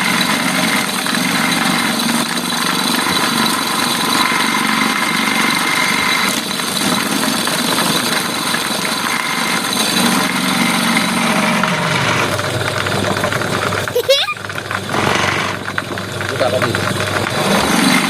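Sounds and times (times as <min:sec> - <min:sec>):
chopper machine drone: 0:00.0 - 0:18.0.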